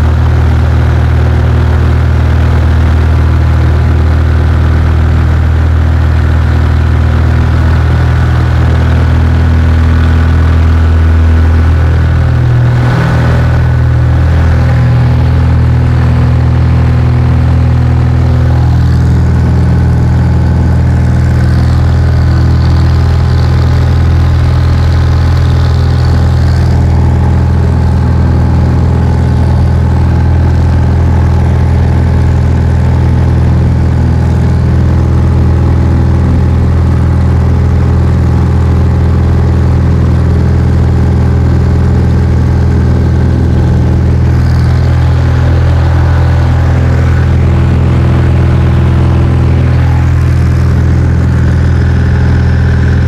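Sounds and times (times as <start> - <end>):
airplane engine drone in cabin: 0.0 - 53.0.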